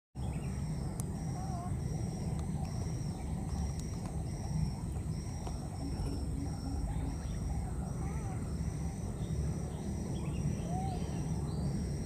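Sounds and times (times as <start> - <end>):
insects trilling: 0.2 - 12.0
steady low rumble: 0.2 - 12.0.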